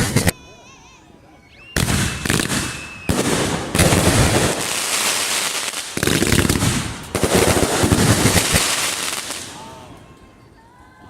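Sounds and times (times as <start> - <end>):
fireworks bursts and crackling: 0.0 - 0.4, 1.8 - 10.3.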